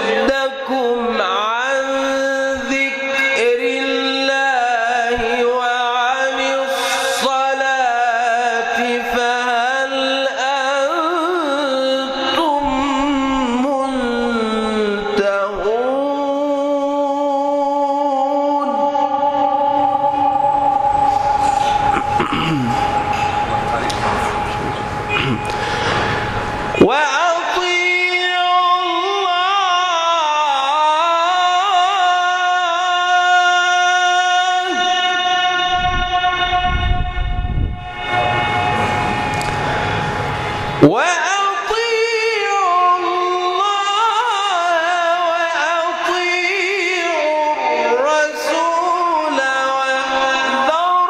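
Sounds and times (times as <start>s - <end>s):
man chanting melodically: 0.0s - 26.1s, 26.7s - 39.5s, 40.8s - 51.0s.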